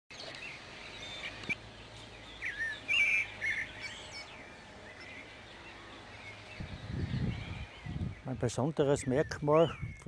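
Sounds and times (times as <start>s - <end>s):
faint outdoor background: 0.1s - 10.0s
songbirds chirping and whistling: 0.1s - 10.0s.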